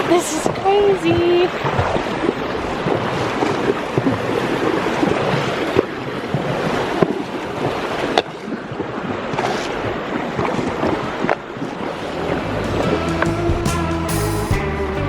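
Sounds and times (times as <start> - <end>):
horses splashing through water: 0.0 - 13.0.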